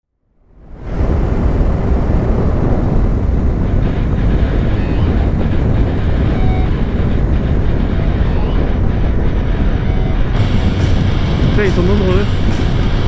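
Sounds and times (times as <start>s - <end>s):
train wheels rumbling on rail: 1.2s - 13.0s.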